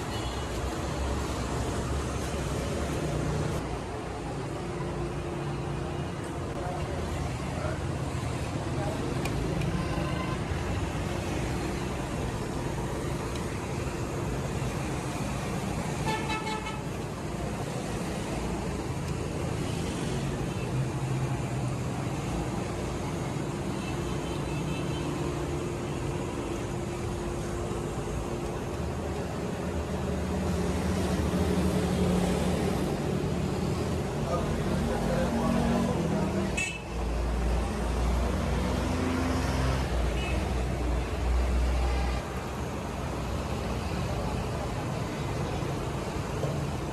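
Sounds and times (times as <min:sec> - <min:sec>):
vehicle engines and road noise: 0:00.0 - 0:46.9.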